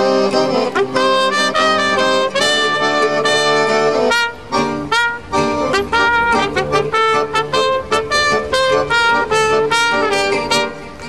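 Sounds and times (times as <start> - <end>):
accordion: 0.0 - 11.0
guitar: 0.0 - 11.0
trumpet melody: 0.0 - 11.0.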